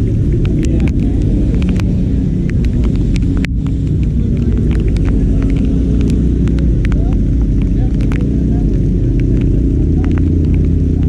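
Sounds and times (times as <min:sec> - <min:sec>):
heavy rain rumble: 0:00.0 - 0:11.0
raindrops ticking on camera: 0:00.0 - 0:11.0.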